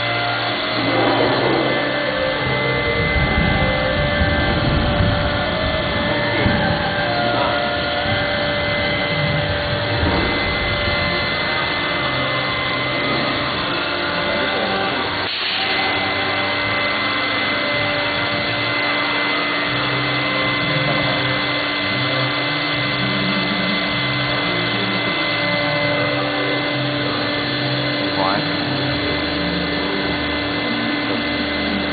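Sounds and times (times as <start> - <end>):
woodworking machine and extraction hum: 0.0 - 31.9.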